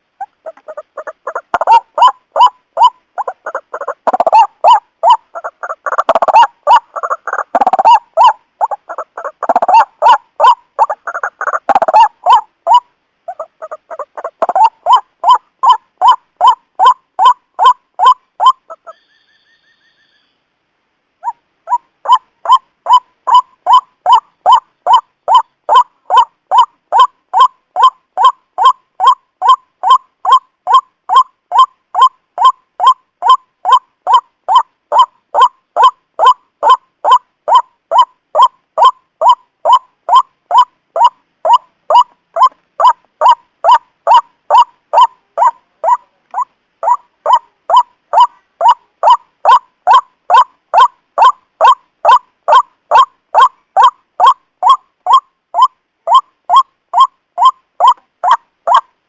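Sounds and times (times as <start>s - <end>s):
waterhen call notes: 0.0s - 20.4s, 21.2s - 59.0s.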